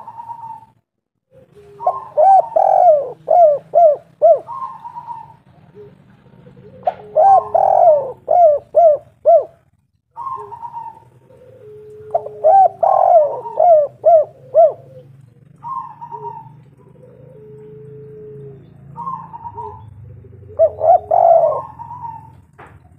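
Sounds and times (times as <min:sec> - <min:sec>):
dove cooing: 0:00.0 - 0:22.7.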